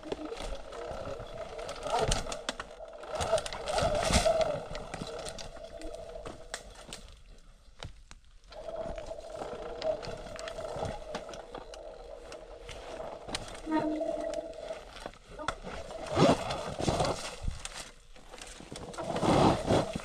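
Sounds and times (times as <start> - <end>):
bike rattling over rough trail: 0.0 - 7.1, 8.5 - 20.0.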